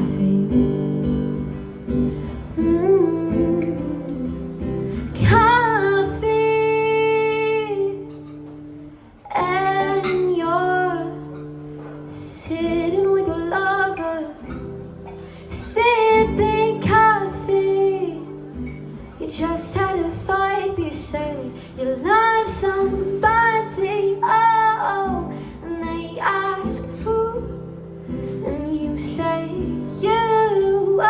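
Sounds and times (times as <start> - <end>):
woman singing: 0.0 - 8.6, 9.2 - 31.0
acoustic guitar: 0.0 - 31.0.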